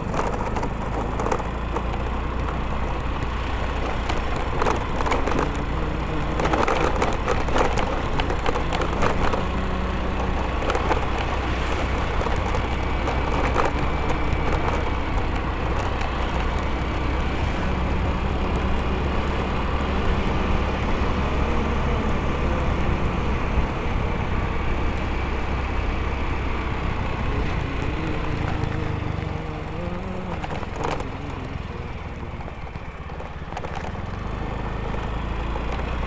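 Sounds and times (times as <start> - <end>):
motorcycle engine running: 0.0 - 36.0
road rumble: 0.0 - 36.0.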